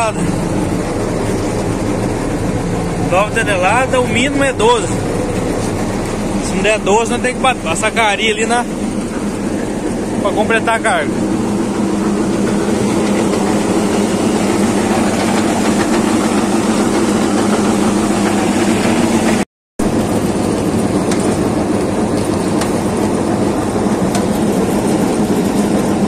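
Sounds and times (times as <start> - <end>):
truck engine and machinery droning: 0.0 - 26.0.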